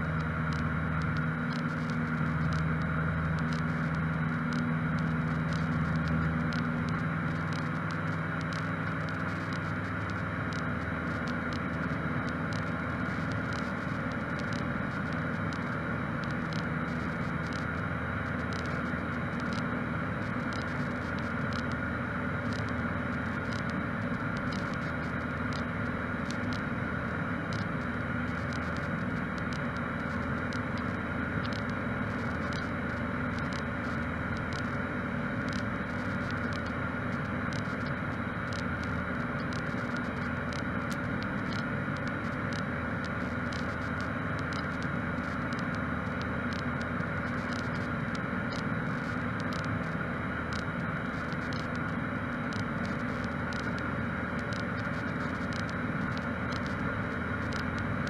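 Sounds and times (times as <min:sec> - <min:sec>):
propeller plane engine in cabin: 0:00.0 - 0:58.0.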